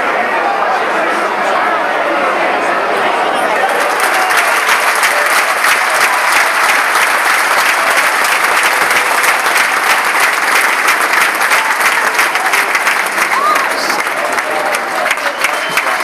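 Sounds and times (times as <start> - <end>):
stadium crowd clapping: 2.4 - 16.0.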